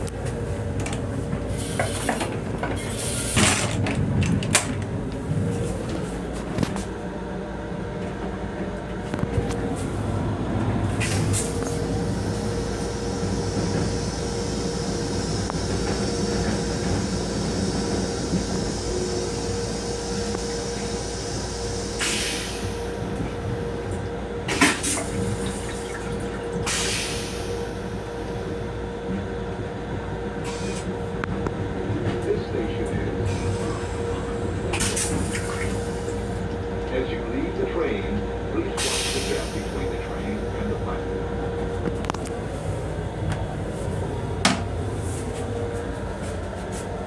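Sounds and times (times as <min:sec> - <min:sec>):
railcar running rumble: 0:00.0 - 0:47.0.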